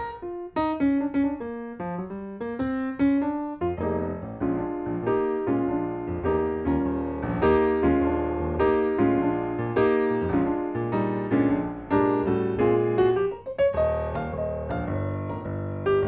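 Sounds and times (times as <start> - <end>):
low piano bass notes: 0.0 - 16.0
piano melody: 0.0 - 16.0.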